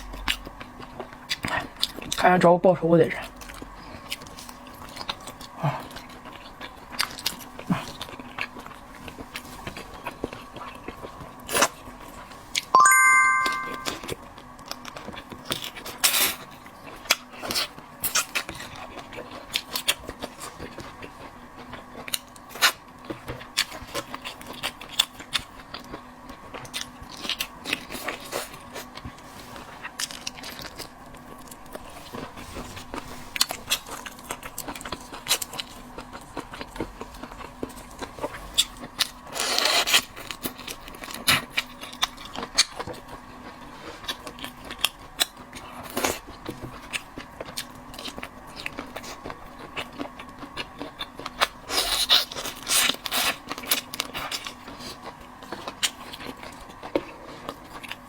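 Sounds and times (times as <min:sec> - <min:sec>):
seafood being chewed: 0:00.0 - 0:02.2, 0:03.2 - 0:12.6, 0:14.6 - 0:58.0.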